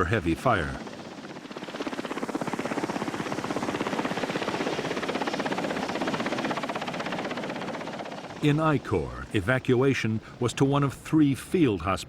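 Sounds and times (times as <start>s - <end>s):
helicopter rotor blades chopping: 0.0s - 12.0s.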